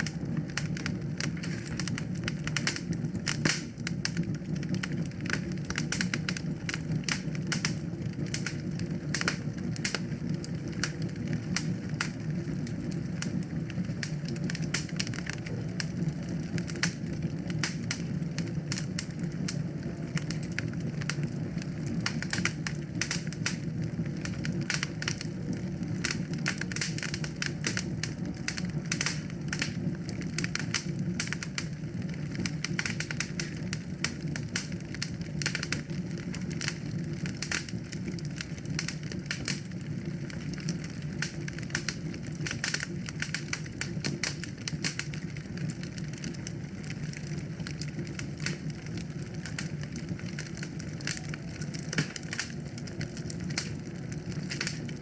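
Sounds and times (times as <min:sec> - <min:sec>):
fire popping and snapping: 0:00.0 - 0:55.0
low rumble of flames: 0:00.0 - 0:55.0.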